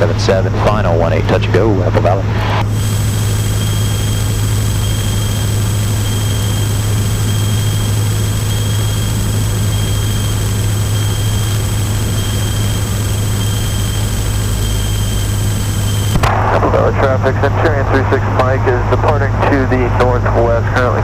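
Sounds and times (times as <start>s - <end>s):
aircraft engine and propeller drone: 0.0s - 21.0s
faint steady high whine: 0.0s - 21.0s.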